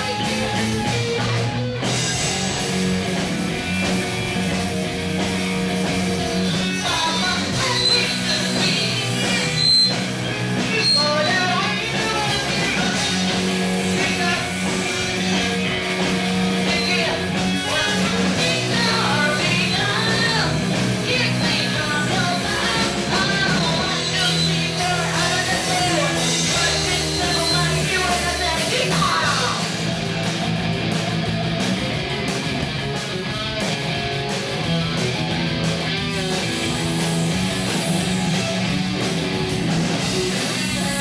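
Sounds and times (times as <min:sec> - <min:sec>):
electric bass: 0:00.0 - 0:41.0
electric guitar: 0:00.0 - 0:41.0.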